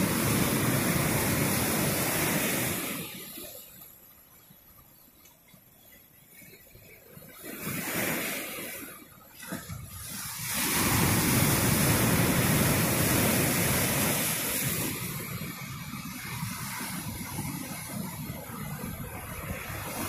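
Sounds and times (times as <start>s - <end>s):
ocean waves crashing on rocks: 0.0s - 3.8s, 6.4s - 20.0s.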